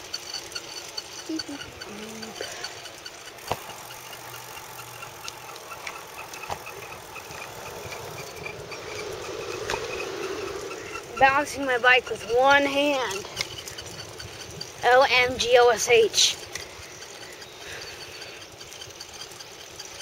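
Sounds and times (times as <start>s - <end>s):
bicycle knocking over bumps: 0.0s - 20.0s
bicycle rolling on concrete: 0.0s - 20.0s
faint quick ticking: 0.0s - 20.0s.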